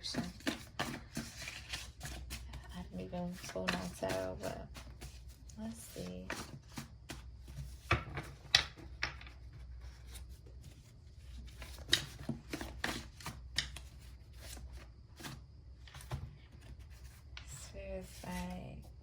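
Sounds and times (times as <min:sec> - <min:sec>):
cards being shuffled: 0:00.0 - 0:08.9, 0:09.5 - 0:18.6.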